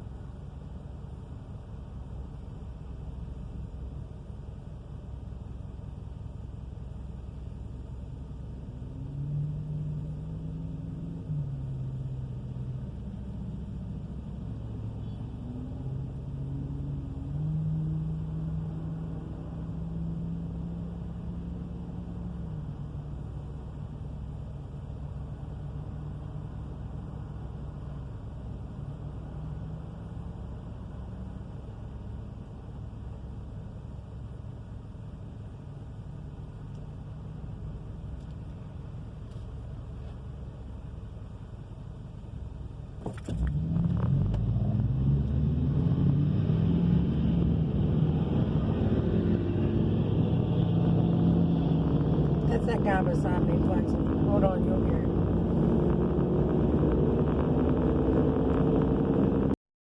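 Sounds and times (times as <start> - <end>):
car driving roaring rumble: 0.0 - 59.6.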